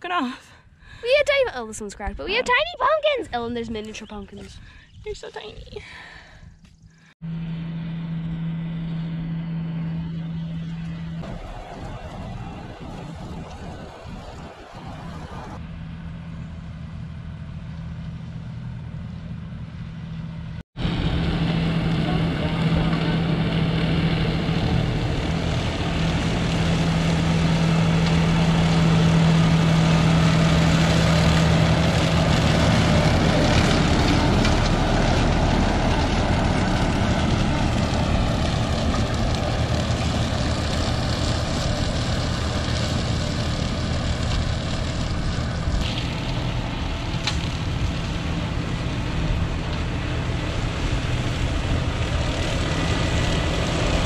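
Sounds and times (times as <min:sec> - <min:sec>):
vehicle engine droning: 0:06.0 - 0:54.0.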